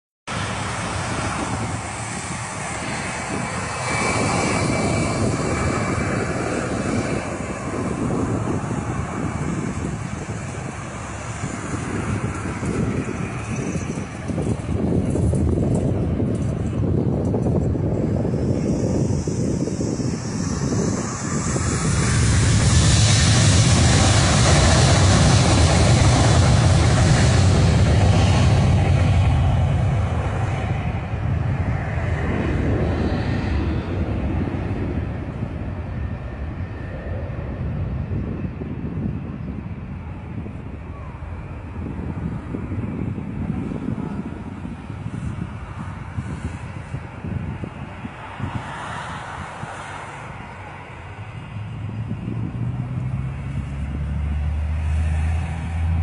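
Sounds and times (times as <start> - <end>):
jet engines at takeoff thrust: 0.3 - 56.0.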